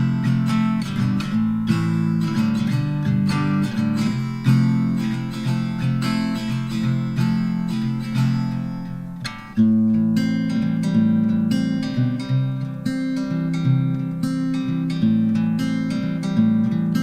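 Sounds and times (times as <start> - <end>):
strummed acoustic guitar chords: 0.0 - 17.0.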